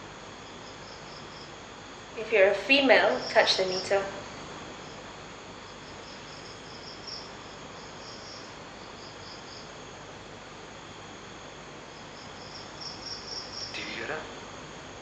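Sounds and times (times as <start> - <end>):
crickets chirping: 0.0 - 15.0
faint steady hiss: 0.0 - 15.0.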